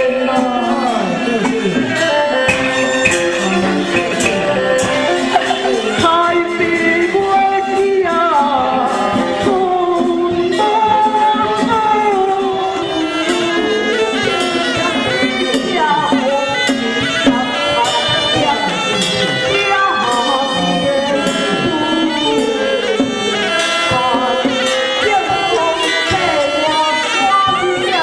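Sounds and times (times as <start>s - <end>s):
shawm playing wavering melody: 0.0s - 28.0s
struck percussion beats: 0.2s - 28.0s.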